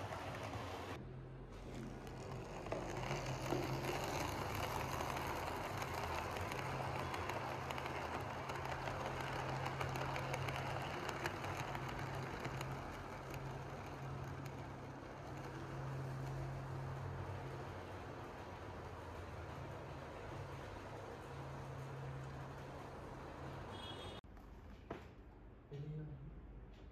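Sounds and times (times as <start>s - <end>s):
model train motor humming: 0.0s - 1.0s, 2.0s - 23.9s
wheels clicking over rails: 0.0s - 23.9s.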